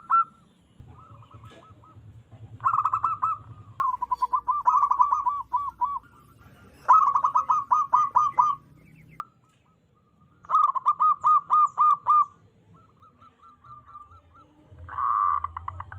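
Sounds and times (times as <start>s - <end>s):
dove cooing: 0.0s - 15.9s.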